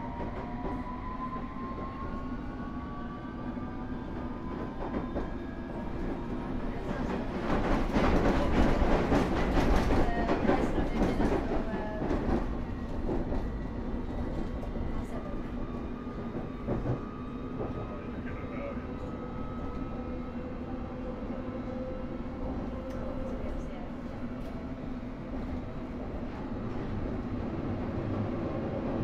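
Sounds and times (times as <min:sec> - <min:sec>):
train rolling noise: 0:00.0 - 0:29.0.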